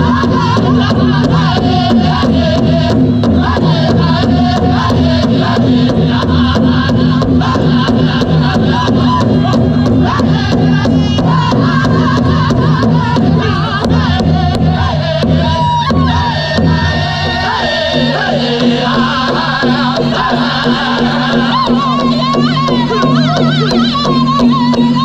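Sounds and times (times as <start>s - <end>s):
high-pitched group singing: 0.0s - 25.0s
large drum steady beat: 0.0s - 25.0s.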